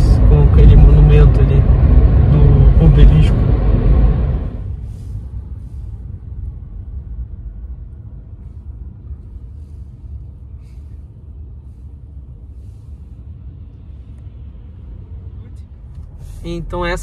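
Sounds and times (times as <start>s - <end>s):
road and tyre rumble inside car: 0.0s - 17.0s.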